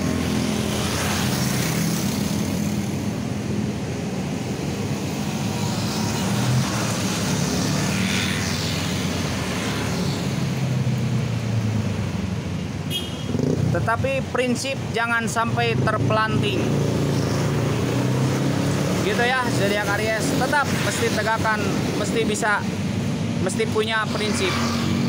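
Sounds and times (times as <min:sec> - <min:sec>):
traffic engine hum: 0:00.0 - 0:25.0
vehicles passing by: 0:00.0 - 0:25.0.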